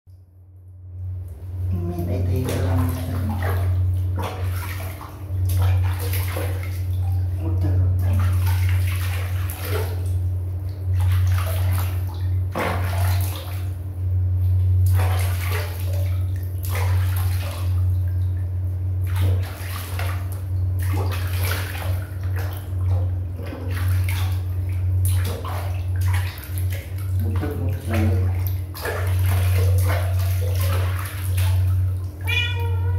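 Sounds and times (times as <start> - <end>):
steady low hum: 0.1 - 32.9
water splashing in plastic basin: 1.2 - 13.9, 14.5 - 32.9.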